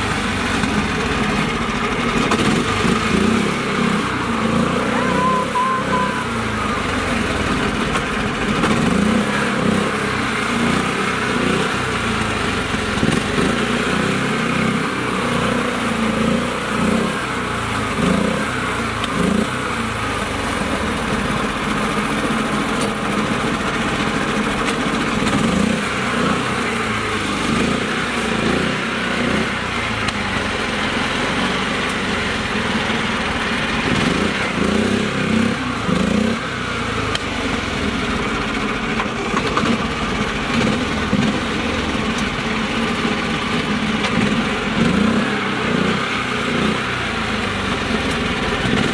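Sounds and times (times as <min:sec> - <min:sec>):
small tractor engine under load: 0:00.0 - 0:48.9.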